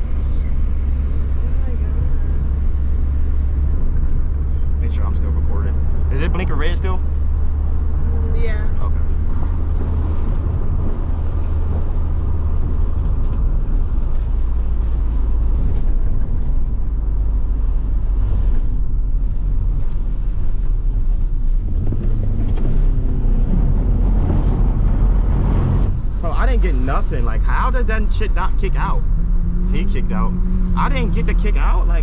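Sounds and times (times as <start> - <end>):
car engine driving: 0.0 - 32.0
road noise: 0.0 - 32.0.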